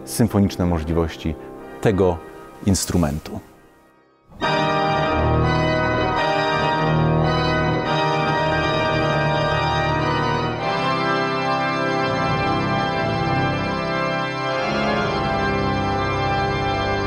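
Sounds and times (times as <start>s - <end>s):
pipe organ playing chords: 0.0s - 17.0s.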